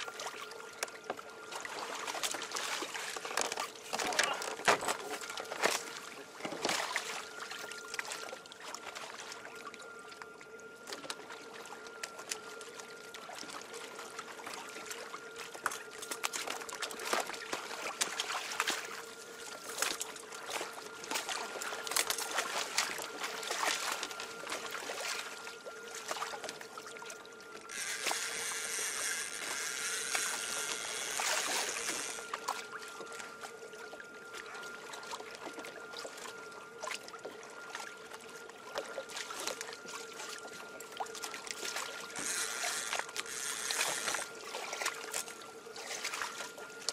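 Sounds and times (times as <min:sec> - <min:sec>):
water sloshing against hulls: 0:00.0 - 0:46.9.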